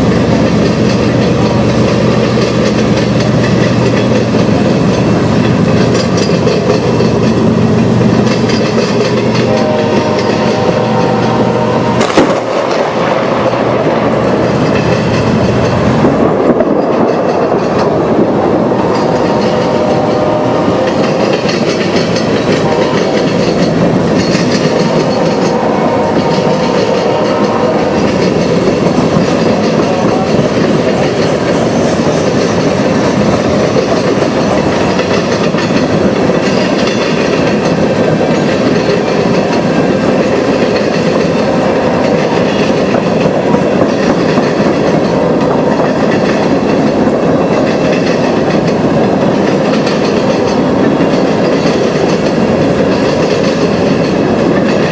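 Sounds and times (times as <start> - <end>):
freight train cars rolling past: 0.0 - 54.9
steel wheels clattering over rail joints: 0.0 - 54.9.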